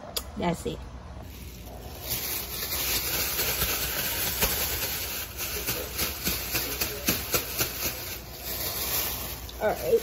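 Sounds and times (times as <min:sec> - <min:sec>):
plastic bag rustling and crinkling: 0:01.2 - 0:10.0.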